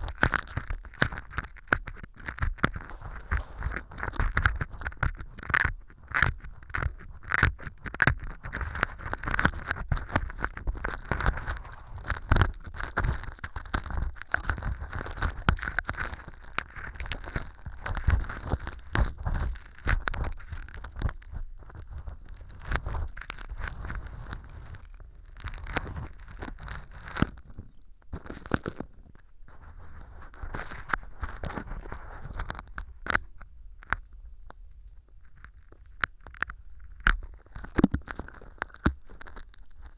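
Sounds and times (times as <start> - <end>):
ear pick scraping crackles: 0.0 - 39.9.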